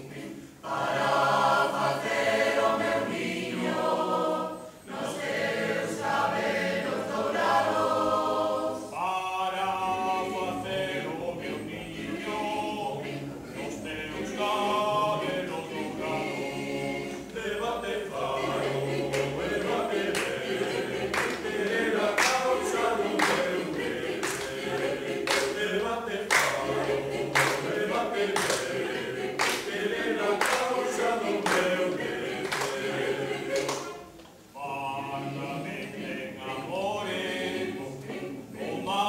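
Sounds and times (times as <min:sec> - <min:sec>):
mixed choir singing a cappella: 0:00.0 - 0:39.0.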